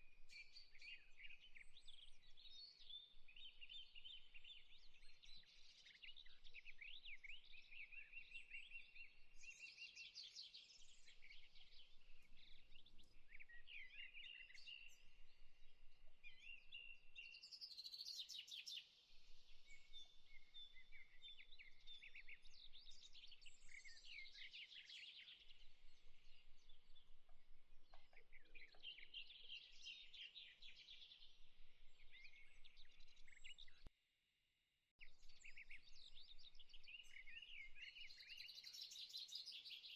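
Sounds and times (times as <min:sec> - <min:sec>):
small birds chirping and trilling: 0:00.3 - 0:33.9, 0:35.0 - 0:39.9.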